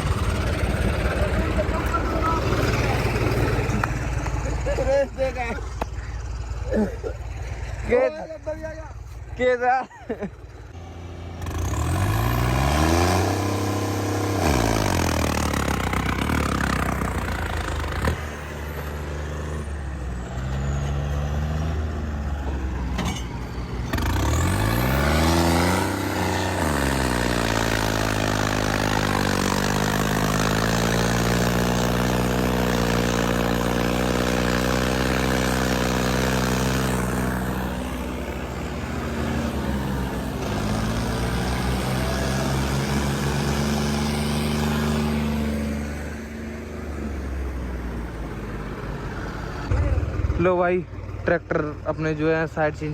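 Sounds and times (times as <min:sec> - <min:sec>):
tractor diesel engines revving: 0:00.0 - 0:52.9.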